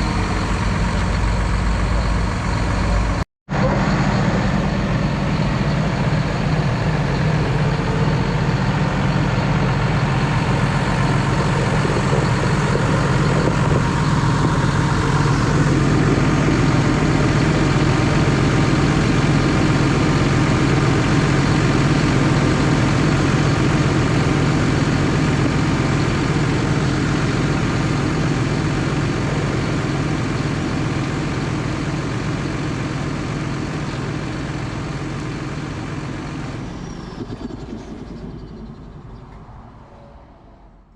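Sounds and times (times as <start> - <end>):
tractor diesel engine running: 0.0 - 39.8.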